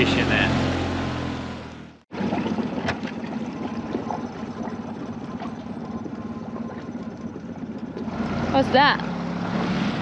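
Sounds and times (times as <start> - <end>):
outboard motor idling: 1.7 - 10.0.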